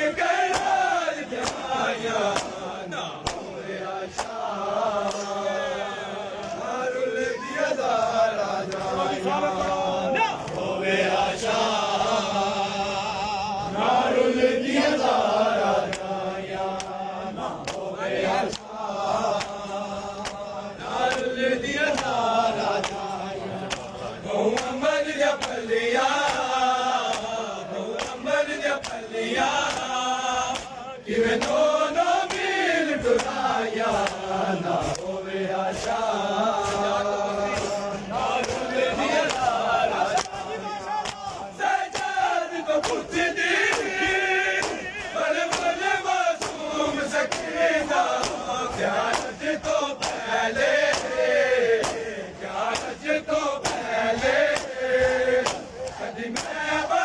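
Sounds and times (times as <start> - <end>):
men chanting: 0.0 - 57.0
hands slapping chests: 0.2 - 6.8, 7.4 - 10.8, 15.1 - 57.0.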